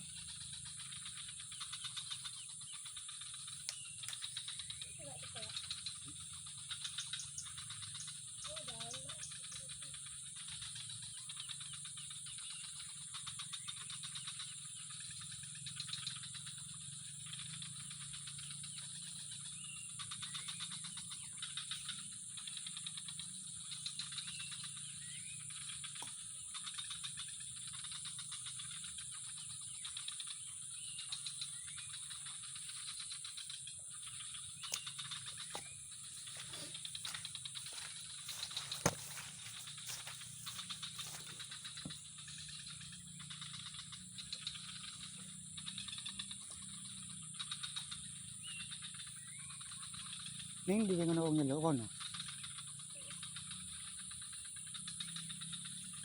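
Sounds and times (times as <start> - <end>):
high insect trill: 0.0 - 56.0
rattling animal calls: 0.0 - 56.0.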